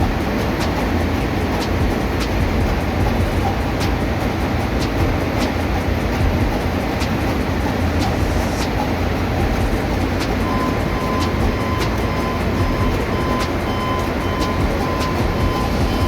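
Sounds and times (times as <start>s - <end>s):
engine room machinery noise: 0.0s - 16.0s
sharp ticks: 0.0s - 16.0s
steady high tone: 0.0s - 16.0s.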